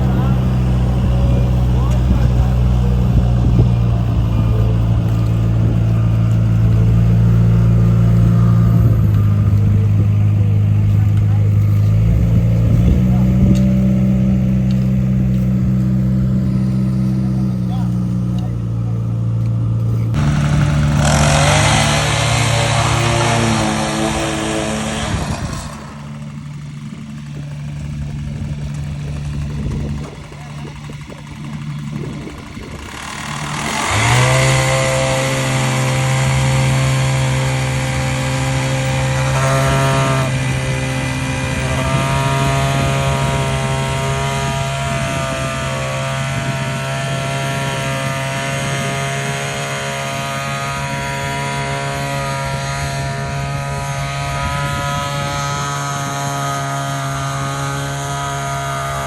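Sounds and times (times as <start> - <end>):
construction machine engine revving: 0.0 - 59.0.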